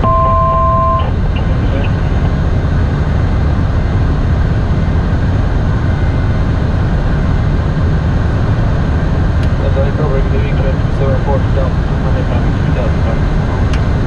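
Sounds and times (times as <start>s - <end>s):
jet cockpit airflow and engine noise: 0.0s - 14.0s.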